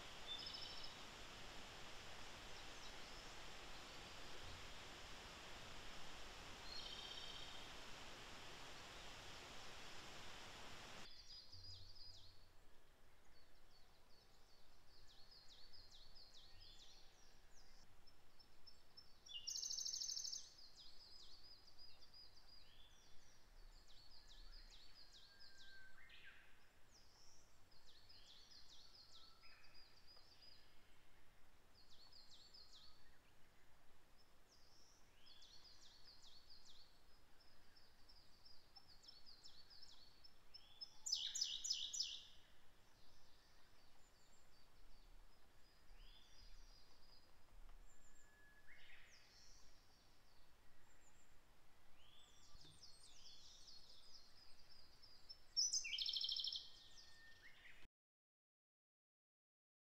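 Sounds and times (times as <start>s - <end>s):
songbird chorus: 0.0s - 57.9s.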